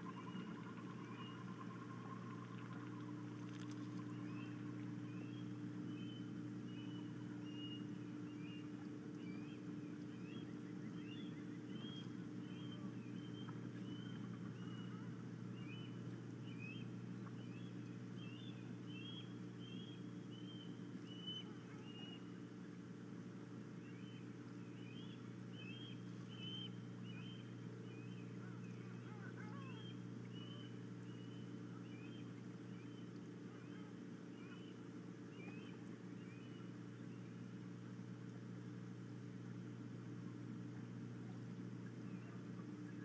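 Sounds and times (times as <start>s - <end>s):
osprey whistled chirps: 0.0s - 22.3s, 23.8s - 37.4s
steady low hum: 0.0s - 43.0s.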